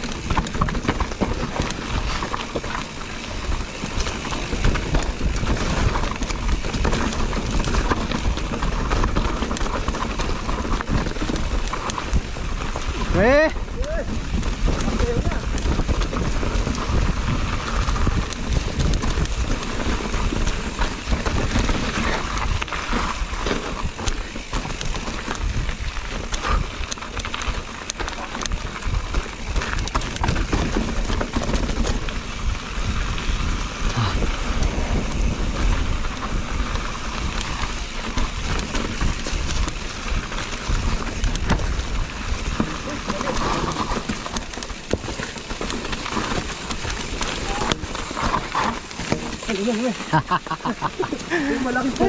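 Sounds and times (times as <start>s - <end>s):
bike knocks and rattles: 0.0s - 52.0s
bike tyres rolling over dirt: 0.0s - 52.0s
wind rumbling on microphone: 0.0s - 52.0s.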